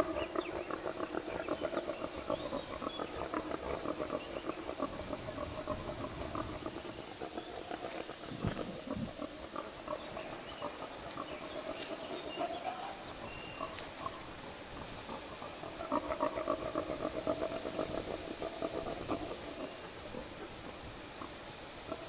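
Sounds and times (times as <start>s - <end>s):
rapid animal calls: 0.0s - 22.0s.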